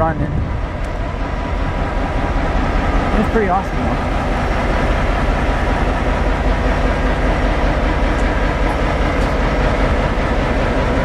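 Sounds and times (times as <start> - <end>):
locomotive engines rumbling: 0.0 - 11.0.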